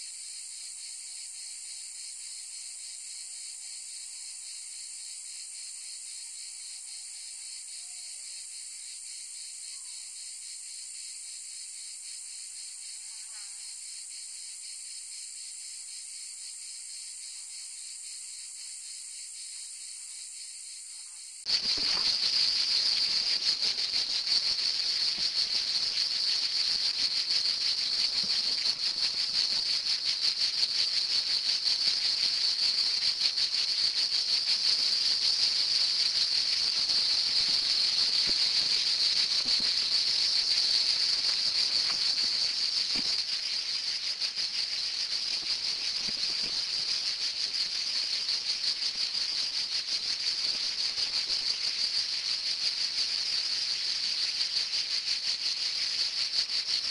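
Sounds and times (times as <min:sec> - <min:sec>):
insects buzzing: 0:00.0 - 0:56.9.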